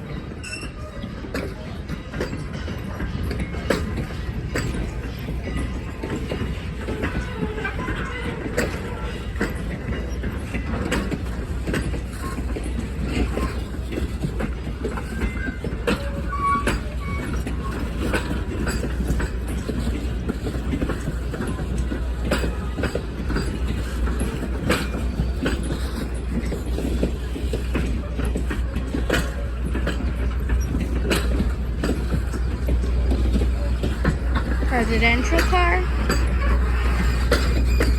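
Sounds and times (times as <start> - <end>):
train rumbling on track: 0.0 - 37.9
wheel squeals: 0.0 - 37.9
wheels clicking over rail joints: 0.0 - 37.9.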